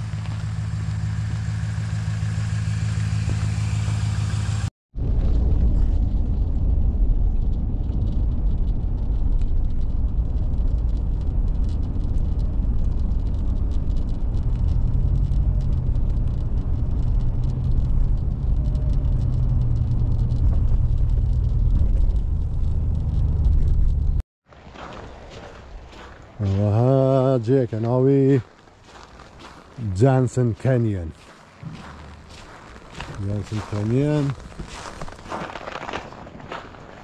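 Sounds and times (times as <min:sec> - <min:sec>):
car road and engine rumble: 0:00.0 - 0:35.6
low hum: 0:00.0 - 0:36.0.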